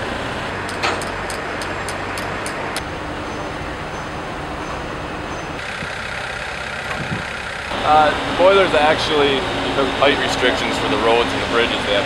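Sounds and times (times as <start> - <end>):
construction machinery engines: 0.0 - 12.0.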